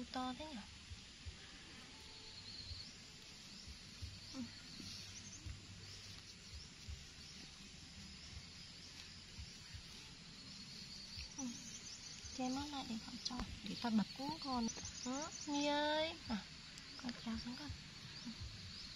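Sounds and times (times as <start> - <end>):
faint high-pitched chirping: 0.0 - 18.9.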